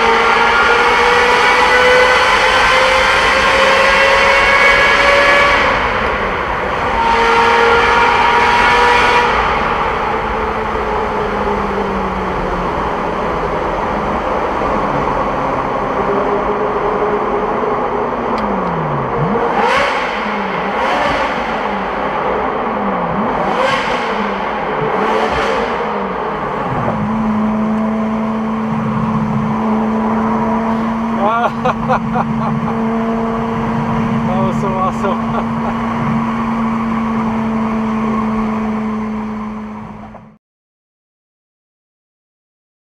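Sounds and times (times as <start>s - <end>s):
car engine pulling hard: 0.0s - 40.4s.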